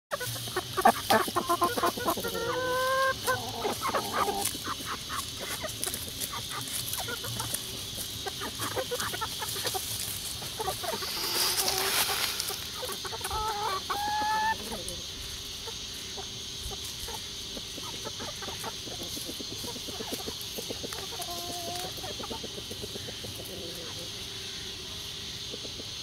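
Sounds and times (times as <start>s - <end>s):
drawn-out hen call: 0.1s - 24.9s
hens clucking: 0.1s - 26.0s
steady high hiss: 0.2s - 26.0s.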